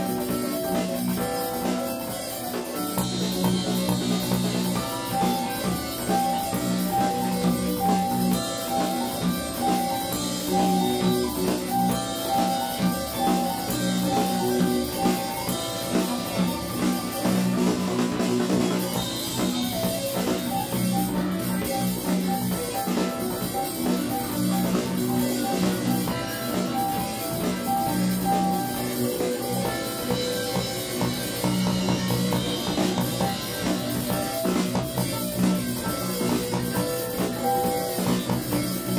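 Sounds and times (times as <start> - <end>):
bass: 0.0 - 38.9
drum beat: 0.0 - 38.9
guitar: 0.0 - 38.9
keyboards: 0.0 - 38.9.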